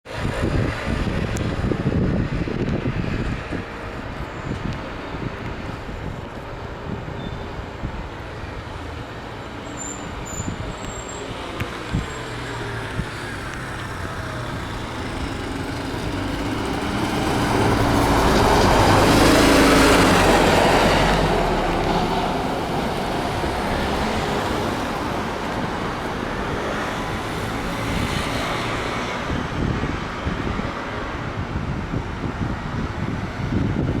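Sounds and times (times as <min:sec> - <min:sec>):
bus driving past: 0:00.1 - 0:33.9.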